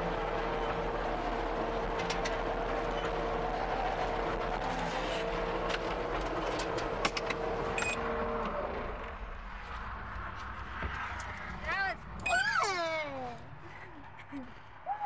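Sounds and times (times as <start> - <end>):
steady machine whine: 0.0 - 12.4
loader engine running: 0.0 - 14.8.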